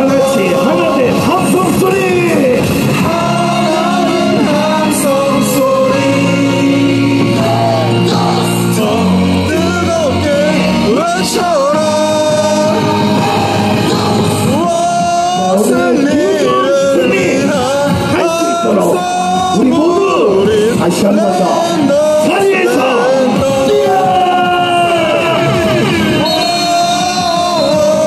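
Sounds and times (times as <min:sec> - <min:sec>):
loud cheer song music: 0:00.0 - 0:28.0.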